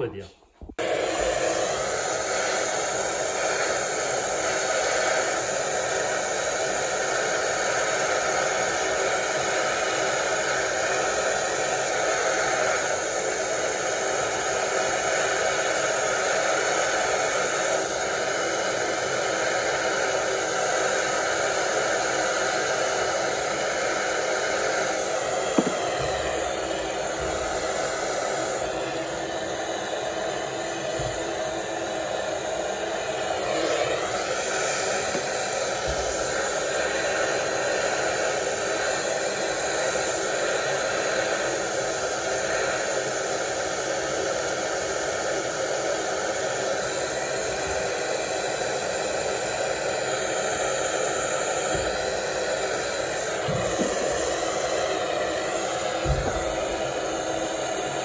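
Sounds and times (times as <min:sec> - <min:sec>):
gas torch hissing: 0:00.8 - 0:58.0.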